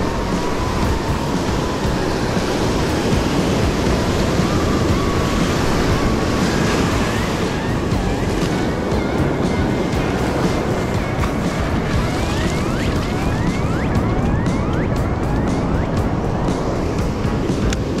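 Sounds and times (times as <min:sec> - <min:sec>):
waves breaking on beach: 0:00.0 - 0:18.0
wind rumbling on microphone: 0:00.0 - 0:18.0.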